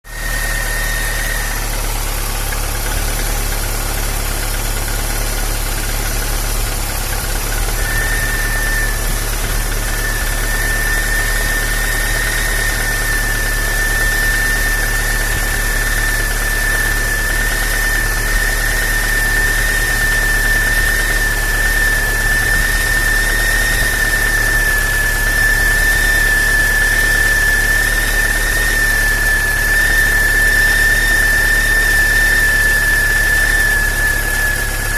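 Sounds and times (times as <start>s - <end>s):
car engine idling: 0.0s - 34.9s
high-pitched water pump whistle: 0.1s - 3.6s, 5.4s - 34.9s.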